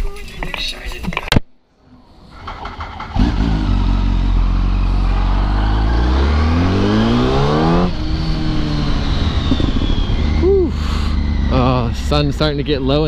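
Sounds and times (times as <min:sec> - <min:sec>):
motorcycle engine revving: 0:02.0 - 0:13.0.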